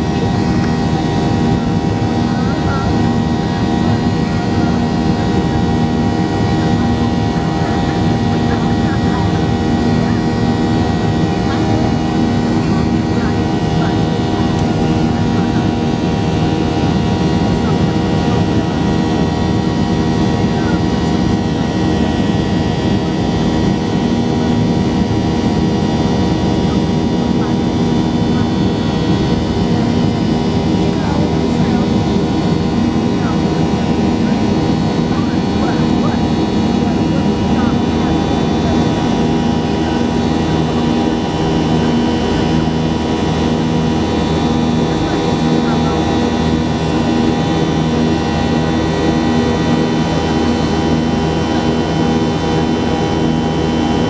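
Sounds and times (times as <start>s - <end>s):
jet engines droning in cabin: 0.0s - 54.0s
steady whining tones: 0.0s - 54.0s.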